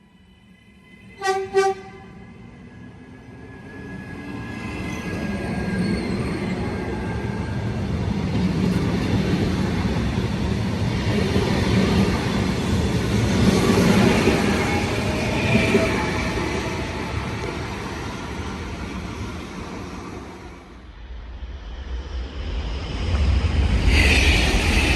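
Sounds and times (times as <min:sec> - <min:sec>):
train passing: 0:00.0 - 0:24.9.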